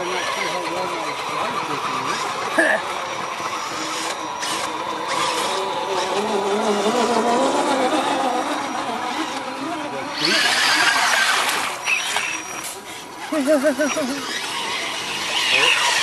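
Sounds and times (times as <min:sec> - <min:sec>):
toy truck electric motors whining: 0:00.0 - 0:16.0.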